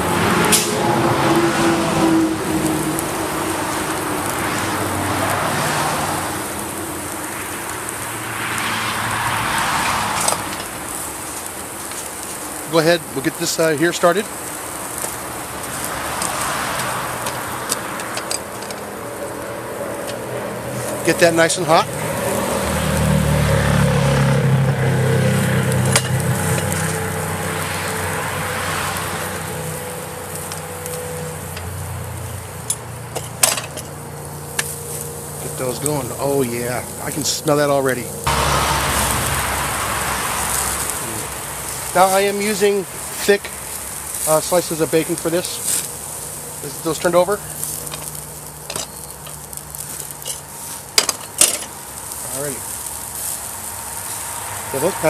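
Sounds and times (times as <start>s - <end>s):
meat sizzling on a grill: 0.0s - 55.0s
engine running steadily: 9.8s - 55.0s.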